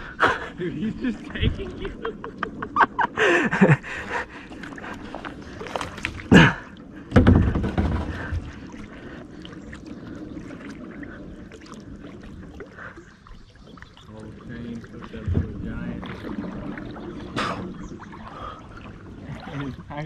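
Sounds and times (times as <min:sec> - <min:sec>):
water lapping on kayak hull: 0:00.0 - 0:20.0.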